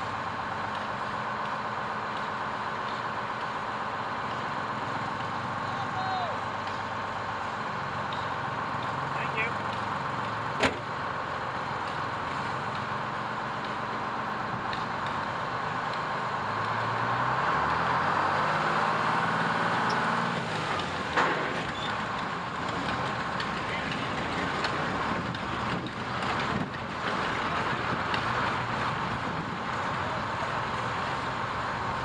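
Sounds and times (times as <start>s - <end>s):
fire truck engine revving: 0.0s - 32.0s.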